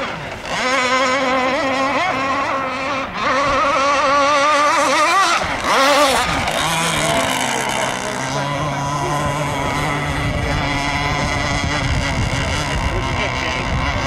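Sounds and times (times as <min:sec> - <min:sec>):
powerboat engine whining: 0:00.0 - 0:14.0.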